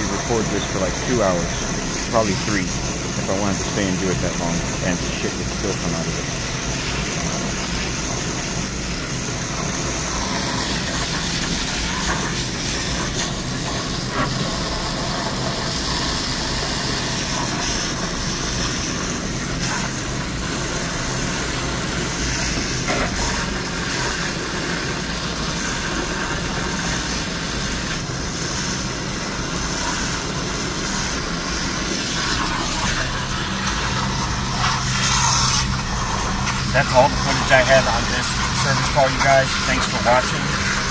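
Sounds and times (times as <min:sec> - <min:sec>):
hose jet spraying water: 0:00.0 - 0:40.9.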